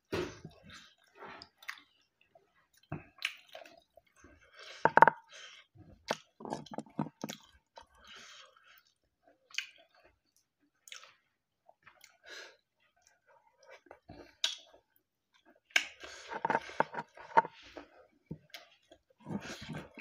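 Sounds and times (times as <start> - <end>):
chewing and lip smacking: 0.5 - 4.8, 5.5 - 17.8.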